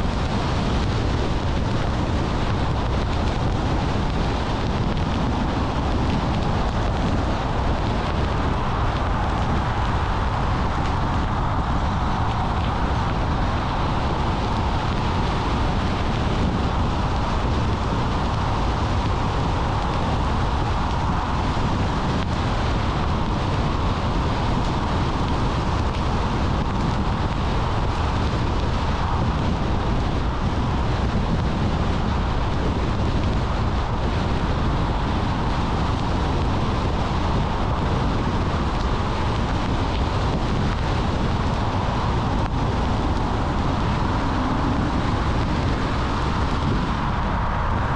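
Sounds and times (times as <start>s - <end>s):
car road noise: 0.0s - 47.9s.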